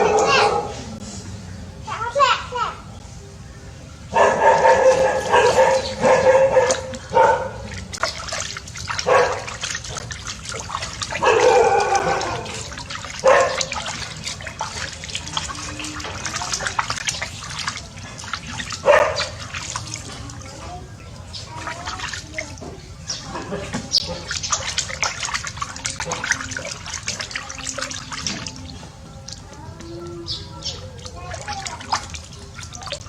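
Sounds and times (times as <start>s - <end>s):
water splashing: 4.1s - 33.0s.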